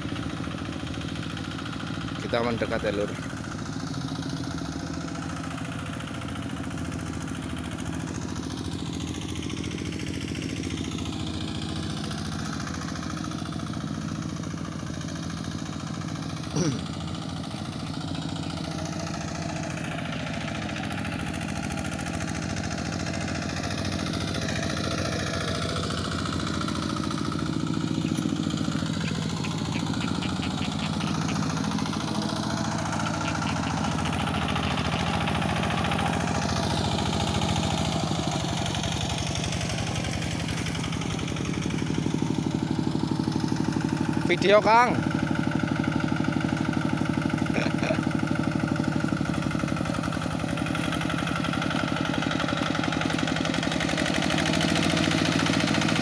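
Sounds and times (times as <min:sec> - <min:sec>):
tilling wet mud: 0:00.0 - 0:56.0
tractor diesel engine running: 0:00.0 - 0:56.0.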